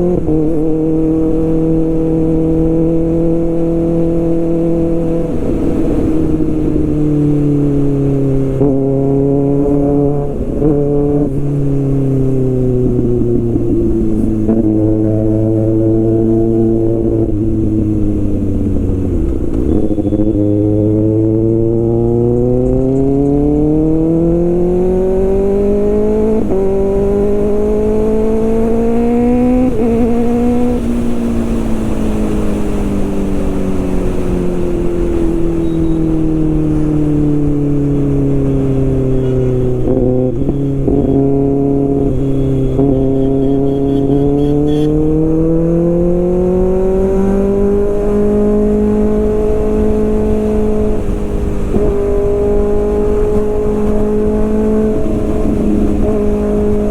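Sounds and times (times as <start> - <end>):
low wind rumble: 0.0 - 56.9
motorcycle engine under load: 0.0 - 56.9.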